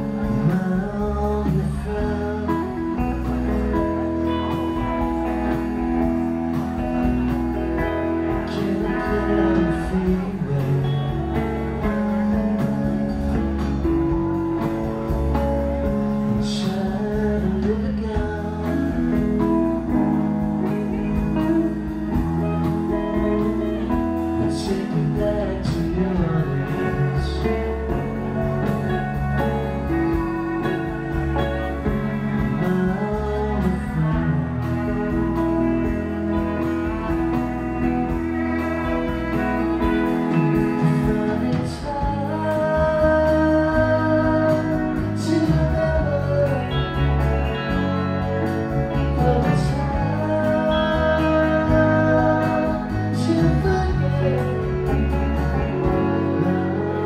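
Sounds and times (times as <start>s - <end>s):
live band playing amplified music: 0.0s - 57.0s.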